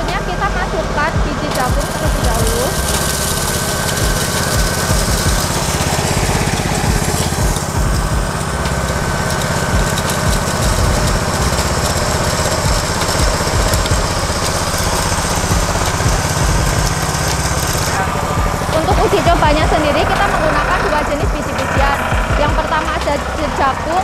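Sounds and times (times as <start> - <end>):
disk mill grinding corn: 0.0 - 24.0
petrol engine running: 0.0 - 24.0.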